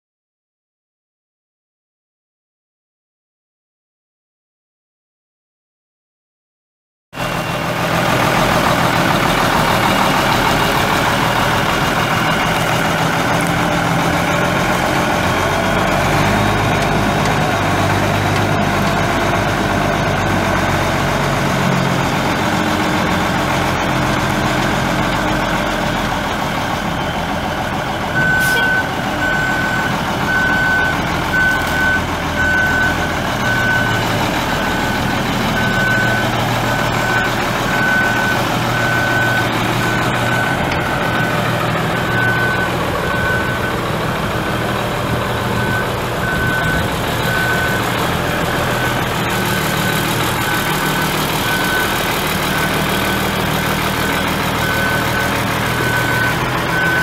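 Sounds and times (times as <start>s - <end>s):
diesel truck engine running: 7.2s - 57.0s
truck backup alarm beeping: 7.2s - 57.0s.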